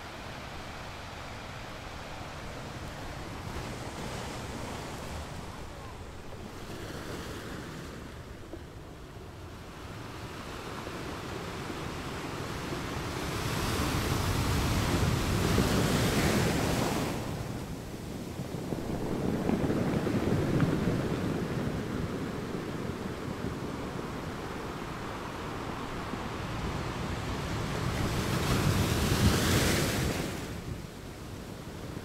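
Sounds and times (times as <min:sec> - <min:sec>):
sea waves breaking on shore: 0:00.0 - 0:09.0, 0:09.6 - 0:32.0
wind noise on microphone: 0:00.0 - 0:32.0.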